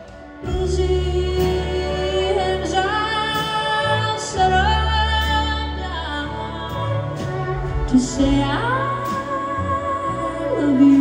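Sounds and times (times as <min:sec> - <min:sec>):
violin: 0:00.0 - 0:11.0
woman singing: 0:00.0 - 0:11.0.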